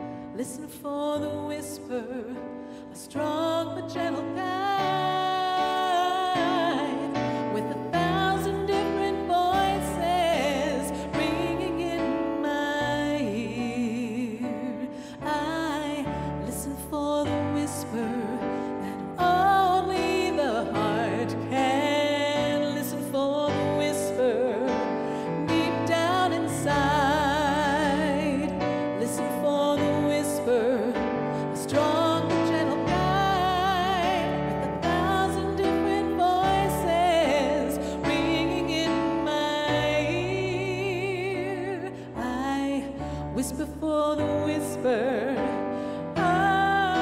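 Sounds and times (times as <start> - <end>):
woman singing a slow ballad: 0.0 - 47.0.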